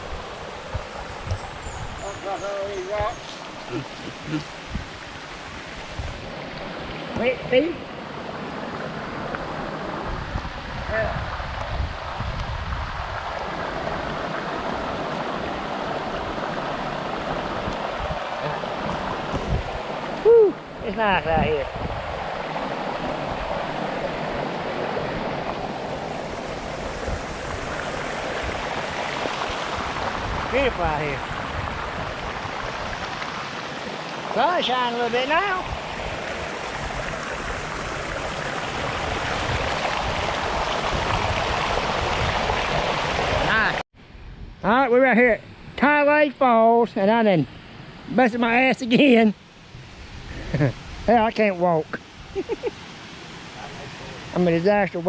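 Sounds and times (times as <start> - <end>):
stream rushing over stones: 0.0 - 43.8, 48.1 - 55.0.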